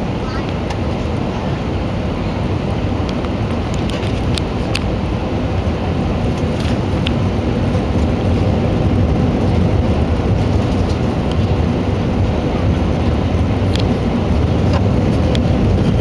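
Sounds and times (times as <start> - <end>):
airplane engines roaring: 0.0 - 16.0.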